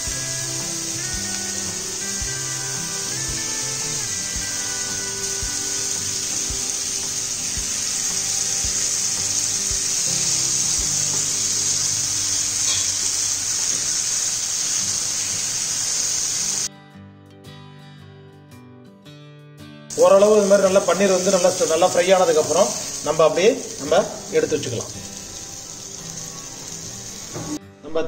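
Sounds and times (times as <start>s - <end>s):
food sizzling in hot oil: 0.0s - 16.7s, 19.9s - 27.6s.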